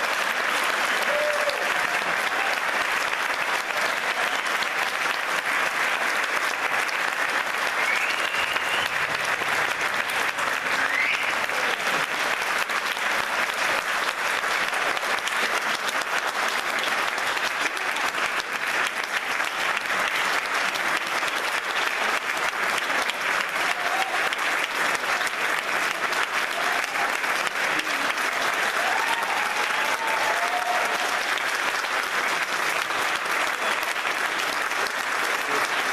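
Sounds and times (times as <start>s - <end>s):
audience applauding: 0.0s - 35.9s.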